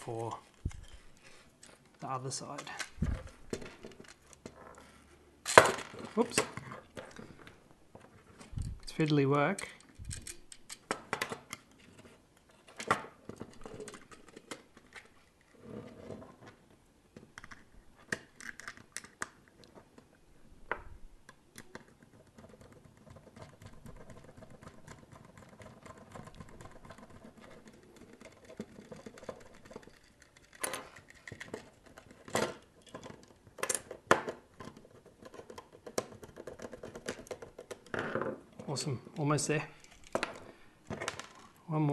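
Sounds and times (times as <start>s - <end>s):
plastic parts scraping: 0.1s - 20.1s, 21.5s - 41.6s.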